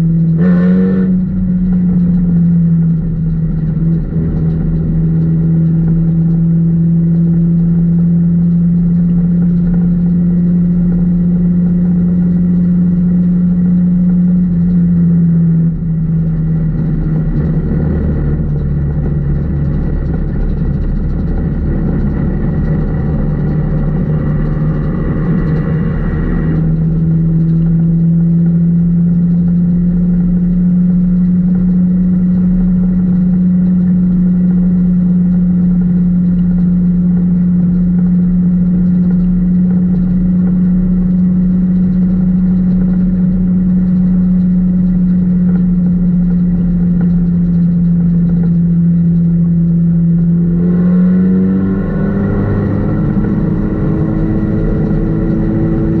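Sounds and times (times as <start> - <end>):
race car engine running: 0.0 - 56.0.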